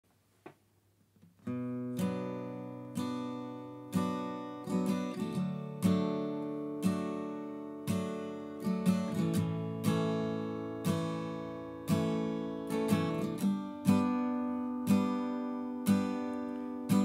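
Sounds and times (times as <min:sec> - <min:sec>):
acoustic guitar chords: 0:01.3 - 0:17.0.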